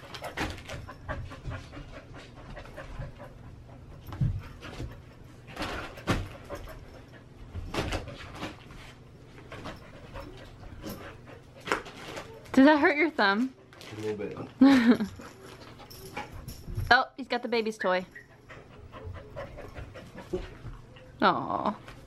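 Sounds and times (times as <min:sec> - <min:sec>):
dog panting: 0:00.0 - 0:14.2, 0:14.8 - 0:16.9, 0:17.5 - 0:21.2.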